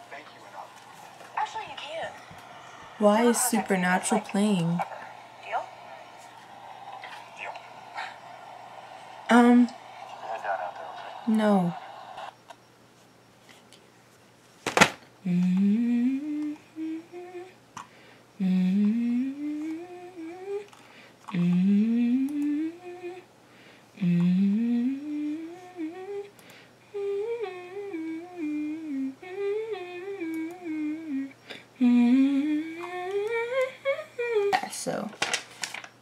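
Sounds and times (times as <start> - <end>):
woman humming: 0.0 - 12.2, 15.2 - 17.6, 18.4 - 20.7, 21.3 - 23.3, 24.0 - 26.3, 26.9 - 34.7.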